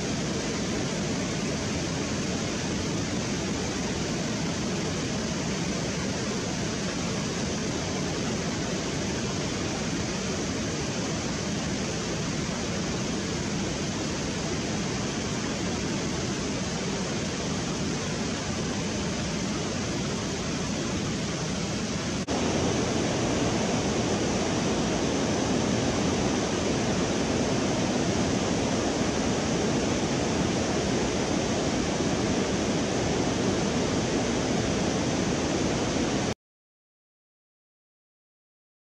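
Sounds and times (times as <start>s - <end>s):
fast-flowing river water: 0.0s - 36.3s.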